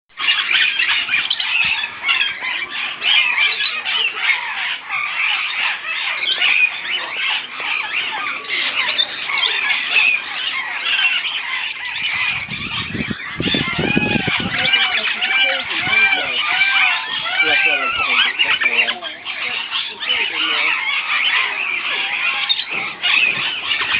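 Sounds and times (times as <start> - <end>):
parrots squawking: 0.2 - 23.9.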